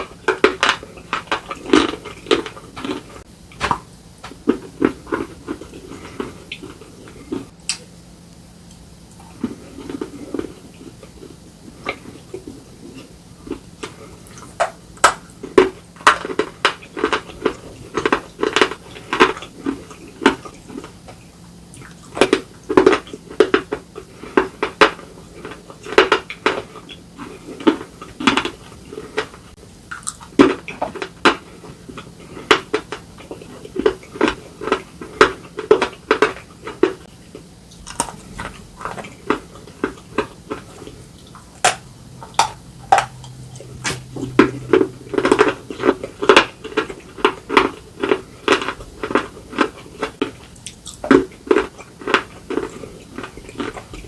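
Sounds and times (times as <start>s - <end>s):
crunching of slate being chewed: 0.0s - 7.5s, 9.1s - 54.0s.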